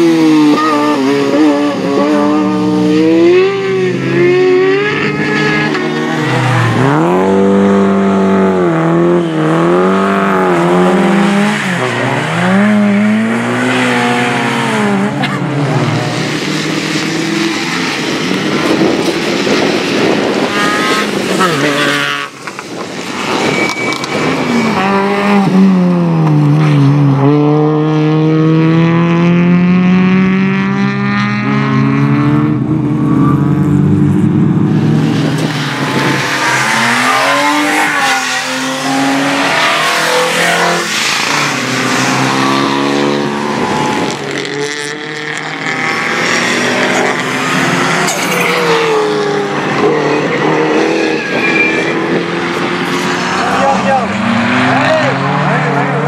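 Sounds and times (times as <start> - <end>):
racing cars revving past: 0.0 - 56.0.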